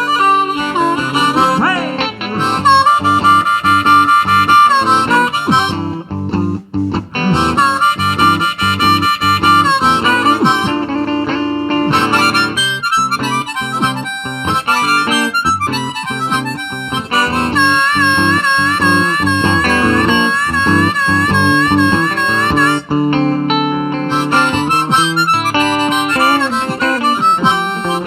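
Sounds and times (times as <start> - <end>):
blues harmonica solo: 0.0 - 28.0
guitar accompaniment: 0.0 - 28.0.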